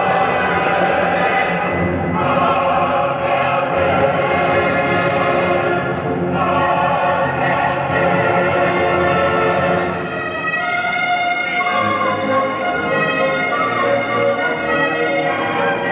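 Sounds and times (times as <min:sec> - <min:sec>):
choir singing held chords: 0:00.0 - 0:15.9
orchestra playing: 0:00.0 - 0:15.9.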